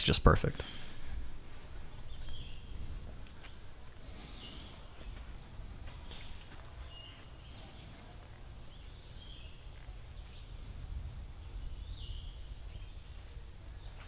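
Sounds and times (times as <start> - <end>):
low rumble of wind: 0.0 - 14.0
bird chirping: 1.8 - 14.0.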